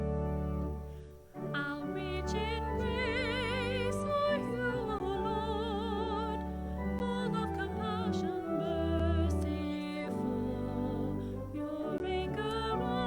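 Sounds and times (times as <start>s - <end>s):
organ sustained chords: 0.0s - 13.0s
solo voice singing with vibrato: 1.4s - 13.0s.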